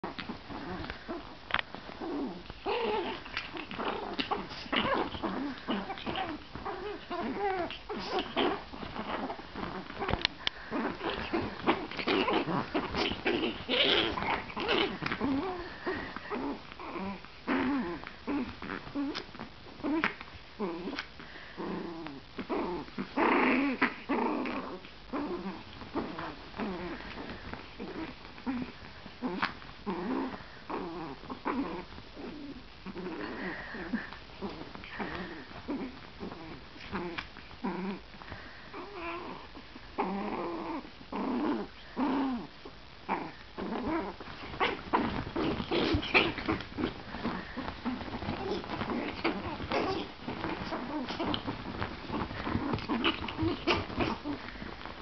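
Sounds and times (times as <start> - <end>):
bedding rustling: 0.0 - 55.0
puppies growling: 0.0 - 55.0.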